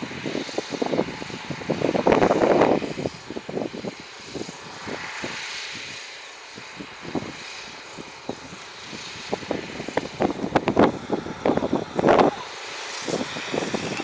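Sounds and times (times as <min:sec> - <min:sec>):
distant tractor running: 0:00.0 - 0:14.0
wind buffeting microphone: 0:00.0 - 0:14.0.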